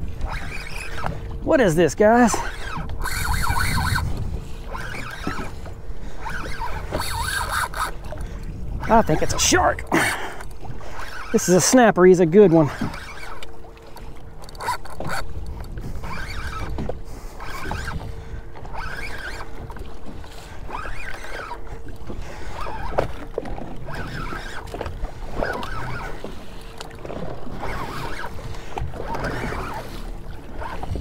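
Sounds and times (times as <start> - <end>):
wind rumbling on microphone: 0.0 - 11.4, 13.9 - 26.4, 27.0 - 31.0
waves slapping against boat hull: 0.0 - 31.0.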